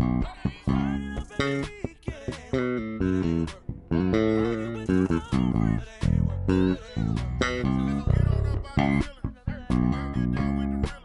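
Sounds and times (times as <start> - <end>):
electric bass plucked notes: 0.0 - 11.0.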